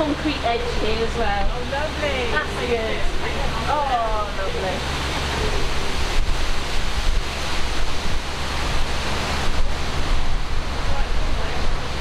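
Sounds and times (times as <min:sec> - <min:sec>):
boat engine humming: 0:00.0 - 0:12.0
wind noise on microphone: 0:00.0 - 0:12.0.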